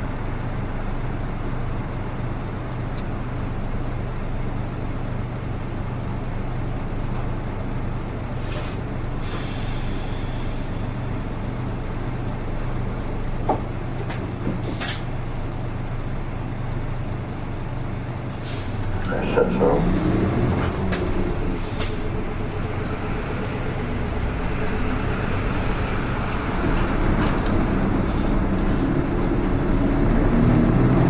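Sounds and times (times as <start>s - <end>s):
bus engine running: 0.0s - 31.0s.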